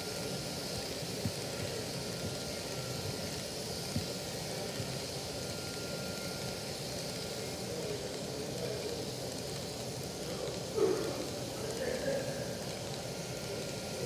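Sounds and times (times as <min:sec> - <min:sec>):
model train wheels on track: 0:00.0 - 0:14.0.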